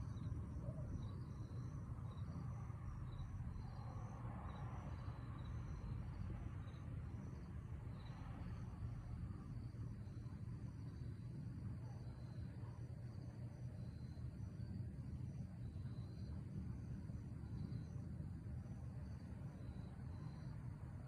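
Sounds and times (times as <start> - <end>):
crickets chirping: 0.0 - 21.0
faint low rumble: 0.0 - 21.0.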